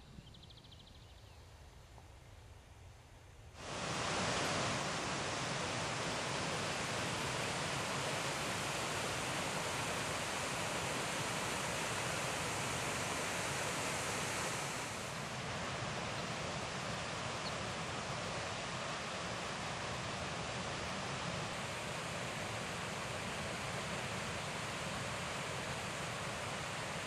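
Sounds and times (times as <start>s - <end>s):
water rushing over rocks: 3.6s - 27.0s.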